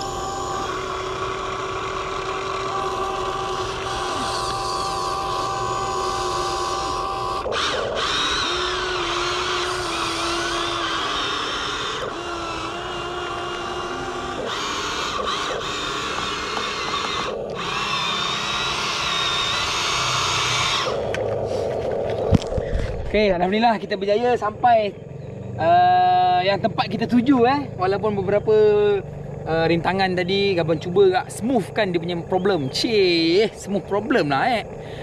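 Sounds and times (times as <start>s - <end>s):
toy excavator motors whining: 0.0s - 35.0s.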